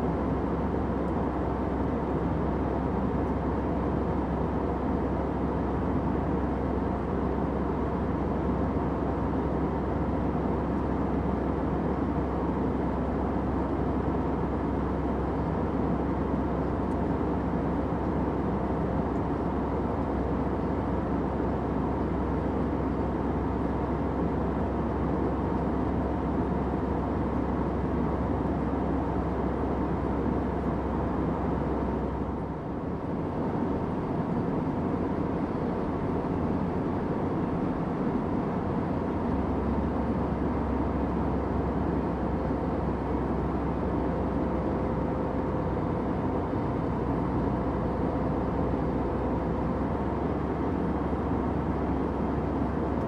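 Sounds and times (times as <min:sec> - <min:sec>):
airliner cabin drone: 0:00.0 - 0:53.0.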